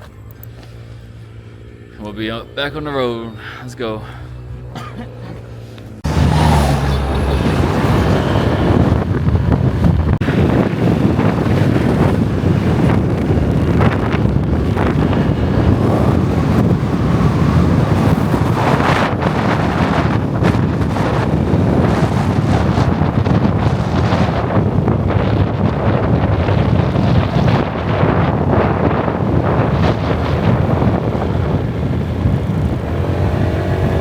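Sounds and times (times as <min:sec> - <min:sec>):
motorbike running: 0:00.0 - 0:34.0
wind buffeting microphone: 0:00.0 - 0:34.0.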